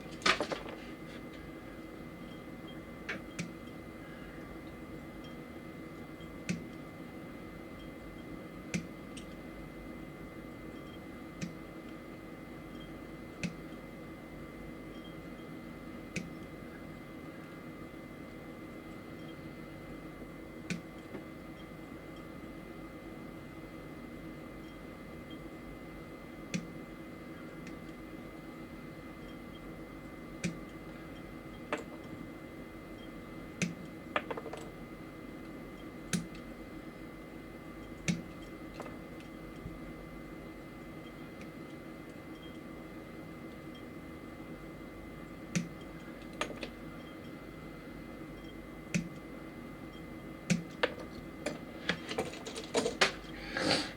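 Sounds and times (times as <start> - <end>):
steady background hum: 0.0 - 53.9.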